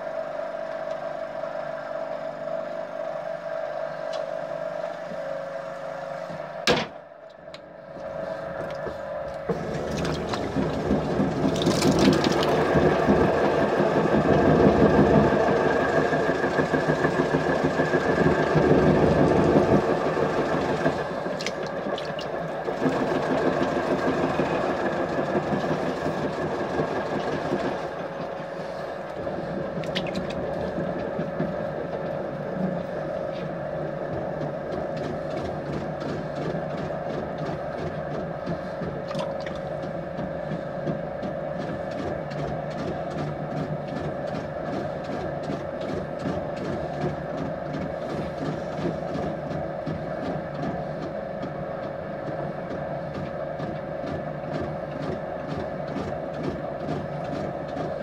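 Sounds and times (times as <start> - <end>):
potter's wheel motor humming: 0.0 - 58.0.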